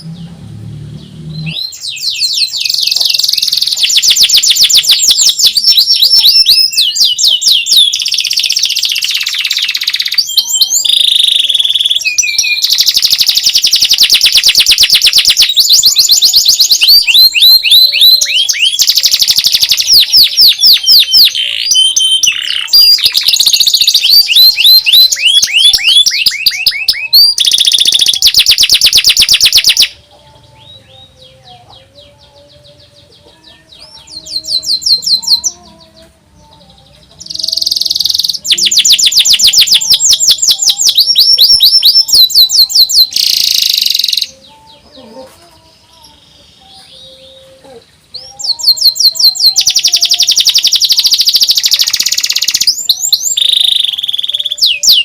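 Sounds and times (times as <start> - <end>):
canary singing fast trills: 0.0 - 55.0
faint bird chirps: 1.0 - 55.0.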